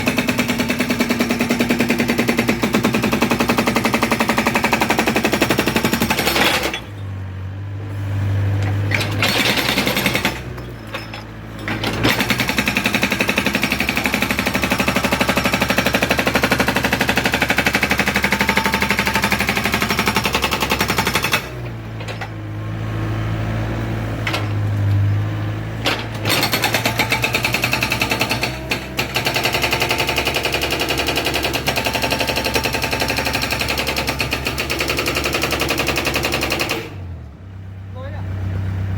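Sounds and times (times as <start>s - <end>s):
hydraulic breaker hammer pounding: 0.0s - 7.0s, 8.6s - 22.4s, 25.8s - 37.0s
excavator engine humming: 0.0s - 38.9s.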